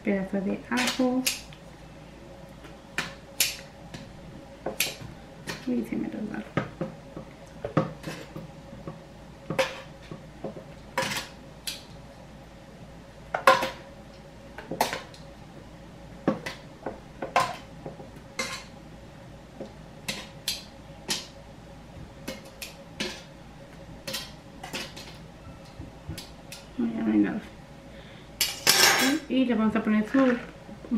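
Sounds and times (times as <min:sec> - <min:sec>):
faint steady hum: 0:00.0 - 0:30.9.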